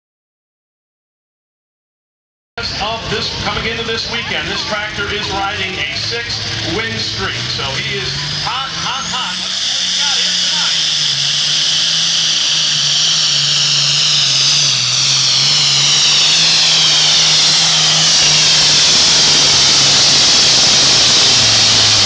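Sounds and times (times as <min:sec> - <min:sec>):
high engine whine: 0:02.6 - 0:22.0
tractor engine at full power: 0:02.6 - 0:22.0.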